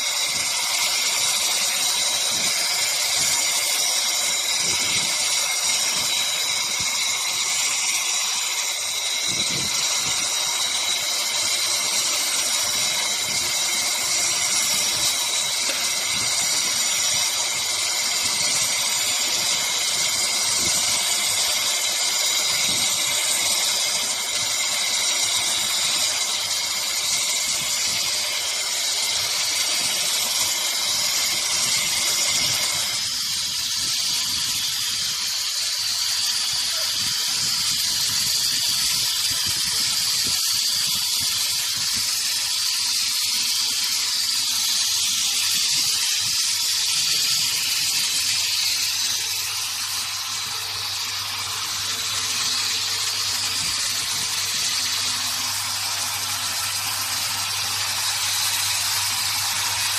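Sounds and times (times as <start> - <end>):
production line hissing: 0.0 - 59.9.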